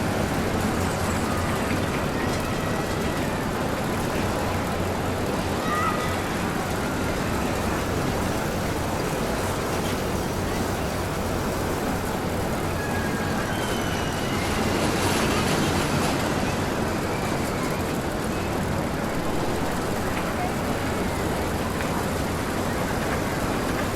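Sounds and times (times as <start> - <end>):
voices: 0.1 - 23.9.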